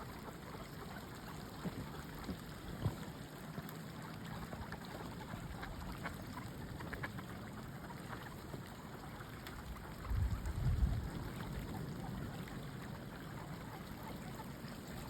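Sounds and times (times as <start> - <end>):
faint ticks and drips: 0.0 - 15.0
running water flowing: 0.0 - 15.0.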